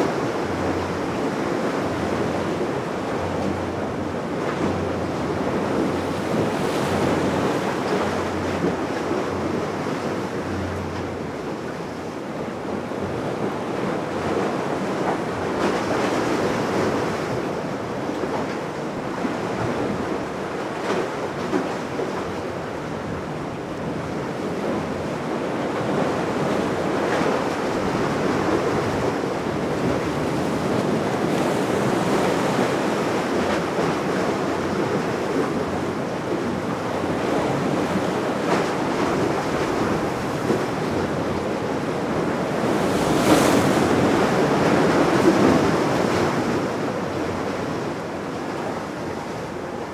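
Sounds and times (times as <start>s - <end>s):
sea surf: 0.0s - 49.9s.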